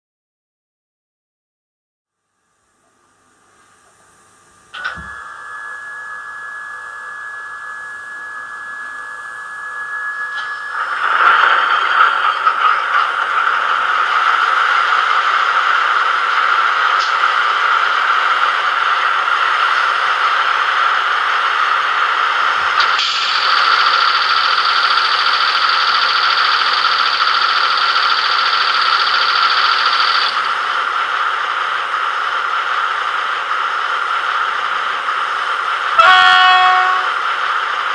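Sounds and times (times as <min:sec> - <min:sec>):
steady high whine: 0:02.5 - 0:37.9
diesel locomotive engine: 0:02.8 - 0:37.9.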